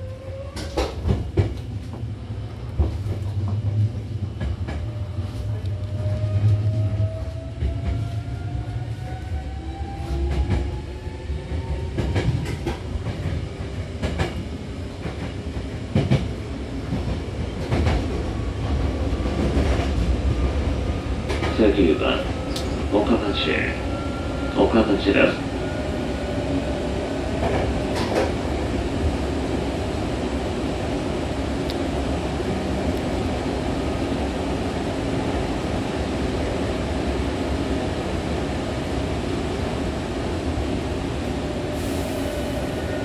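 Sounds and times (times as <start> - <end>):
train rumble: 0.0 - 43.0.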